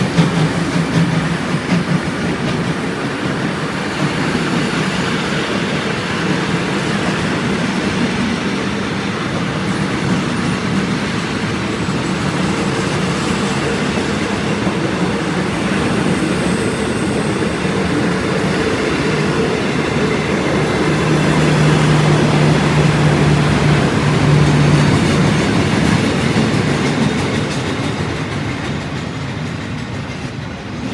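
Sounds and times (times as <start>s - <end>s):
train rushing past: 0.0s - 30.9s.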